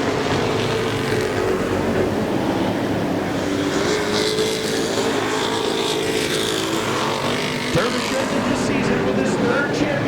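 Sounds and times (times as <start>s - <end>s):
racing truck engines droning: 0.0s - 10.0s.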